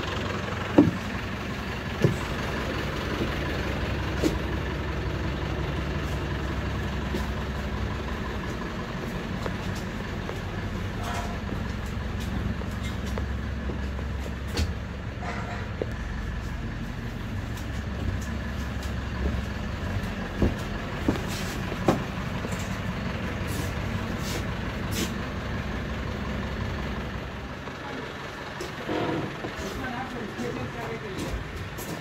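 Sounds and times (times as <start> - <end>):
bus engine idling: 0.0 - 32.0.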